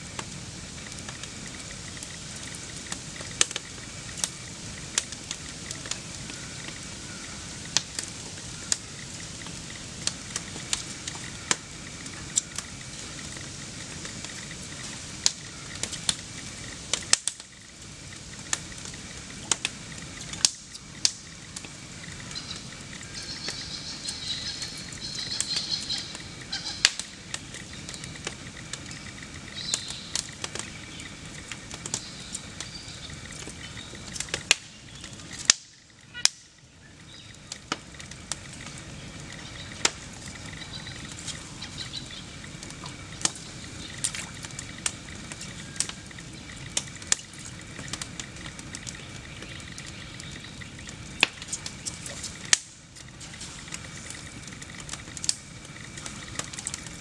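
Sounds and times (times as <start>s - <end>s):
wood fire crackling and popping: 0.0s - 57.0s
birds calling faintly: 0.2s - 57.0s.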